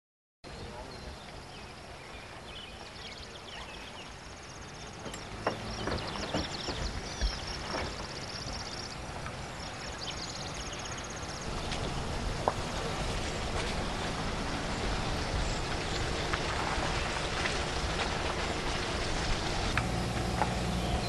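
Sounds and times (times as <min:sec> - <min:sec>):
birds chirping and trilling: 0:00.6 - 0:17.8, 0:20.4 - 0:21.0.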